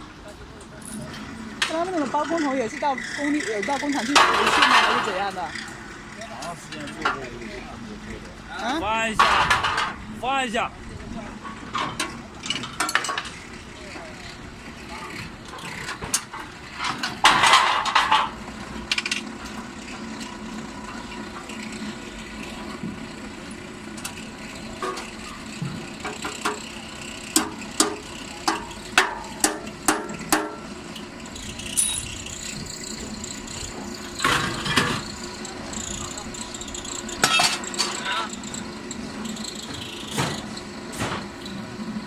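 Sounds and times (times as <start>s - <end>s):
metal formwork clattering: 3.3s - 7.8s, 8.9s - 10.6s, 11.2s - 21.6s, 24.0s - 41.5s.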